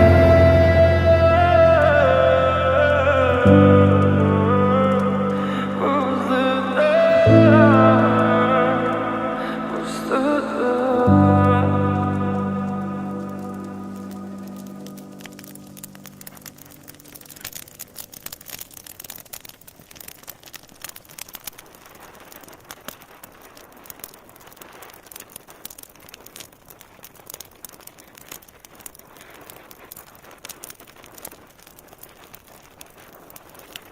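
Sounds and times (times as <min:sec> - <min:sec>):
crackling with pops and clicks: 0:00.0 - 0:33.9.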